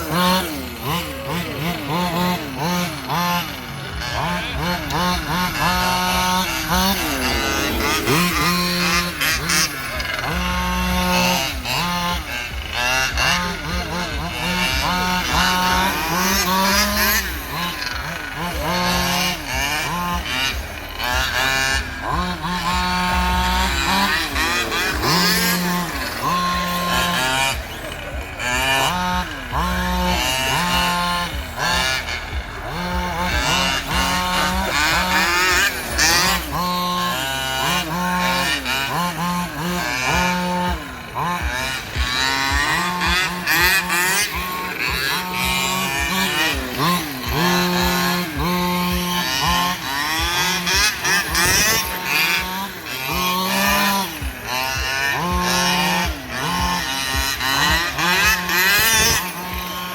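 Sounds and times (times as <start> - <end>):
rc car engines whining: 0.0 - 59.9.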